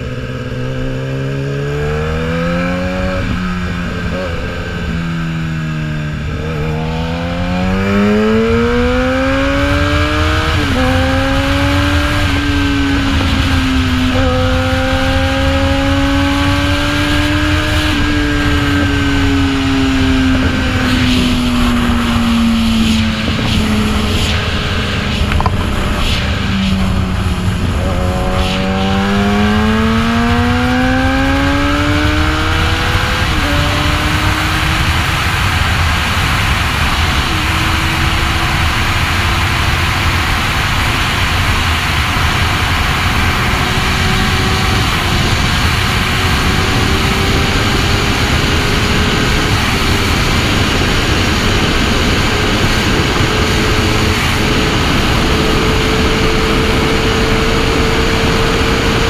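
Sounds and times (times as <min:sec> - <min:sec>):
motorcycle engine accelerating: 0:00.0 - 0:59.0
wind rush on microphone: 0:00.0 - 0:59.0.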